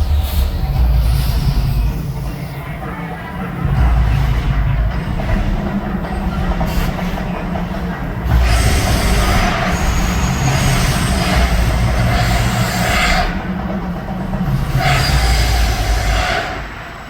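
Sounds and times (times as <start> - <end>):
deep steady rumble: 0.0 - 17.0
loud rushing hiss: 0.0 - 17.0.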